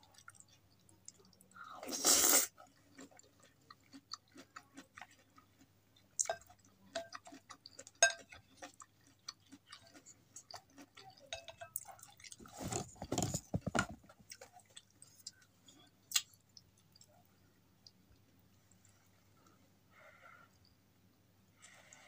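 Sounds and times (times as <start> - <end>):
person chewing noodles: 0.0 - 19.0.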